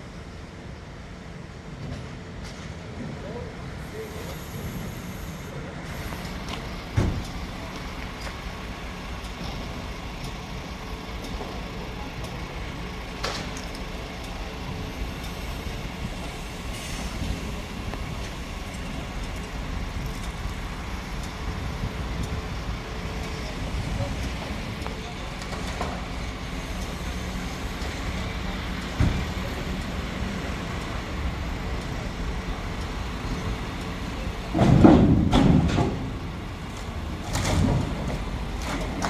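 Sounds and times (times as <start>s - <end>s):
heavy engine rumble: 0.0s - 39.0s.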